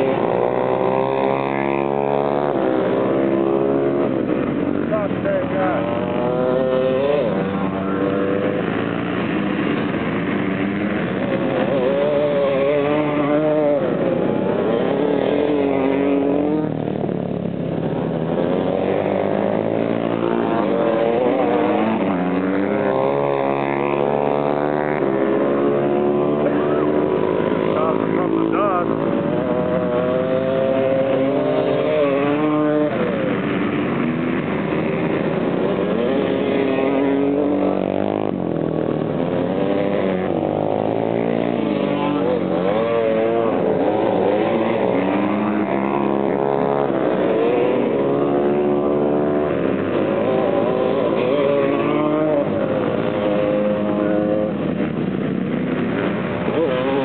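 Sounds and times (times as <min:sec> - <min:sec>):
motorcycles revving: 0:00.0 - 0:57.0.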